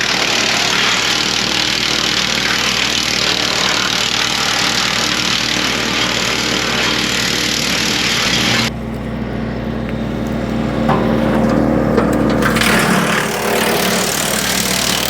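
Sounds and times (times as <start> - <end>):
tractor engine drone: 0.0 - 15.0
wood chipper hiss: 0.0 - 15.0.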